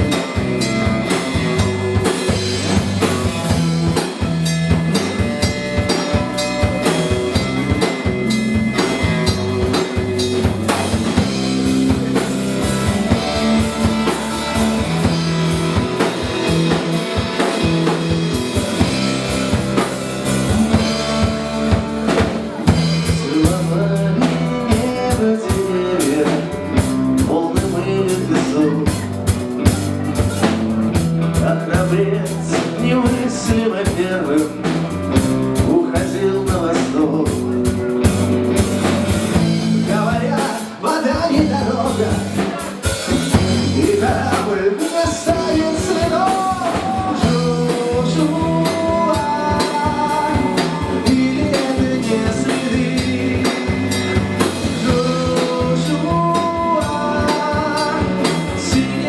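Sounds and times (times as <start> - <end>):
bass guitar: 0.0 - 59.0
drum kit beat: 0.0 - 59.0
electric guitar: 0.0 - 59.0.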